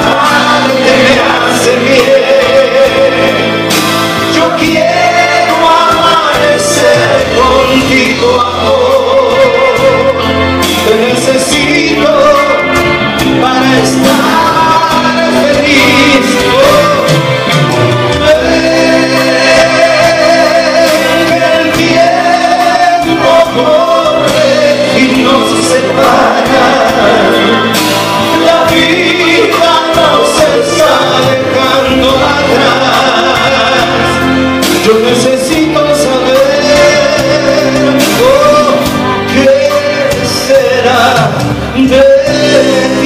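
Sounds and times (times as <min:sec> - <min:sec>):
live band playing: 0:00.0 - 0:43.0
man singing into a microphone: 0:00.0 - 0:43.0.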